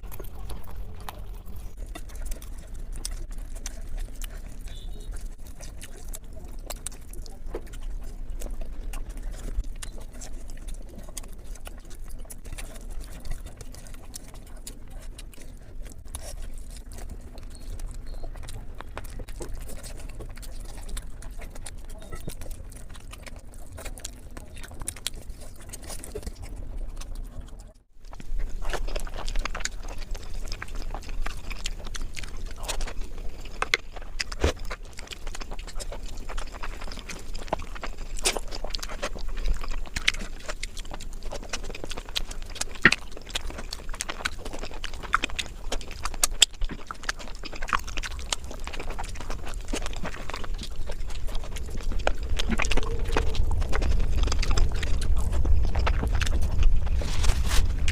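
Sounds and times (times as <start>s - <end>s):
person chewing with wet smacks: 0.0s - 57.9s.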